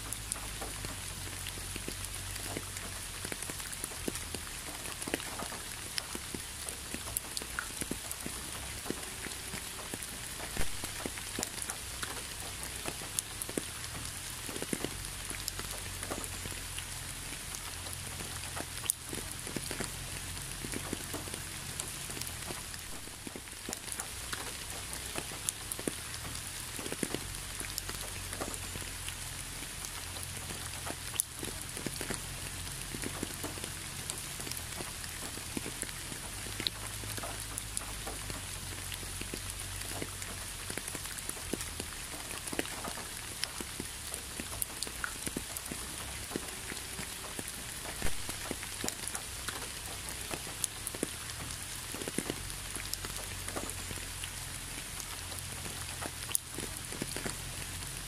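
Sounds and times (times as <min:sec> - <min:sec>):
hiss of rainfall: 0:00.0 - 0:58.0
rain drops tapping on surface: 0:00.0 - 0:58.0.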